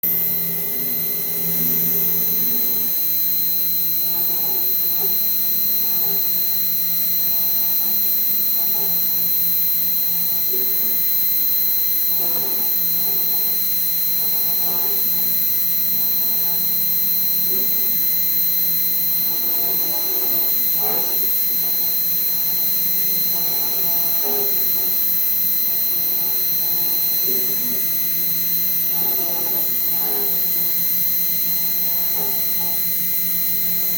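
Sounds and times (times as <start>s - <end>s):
spindle hum and whine: 0.0s - 33.9s
stepper motor tones: 0.0s - 33.9s.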